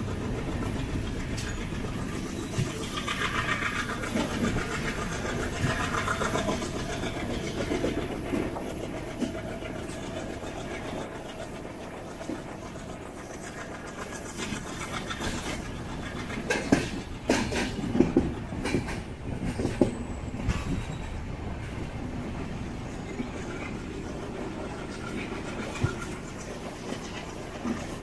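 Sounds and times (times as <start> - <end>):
train wheels clattering on rails: 0.0 - 28.0.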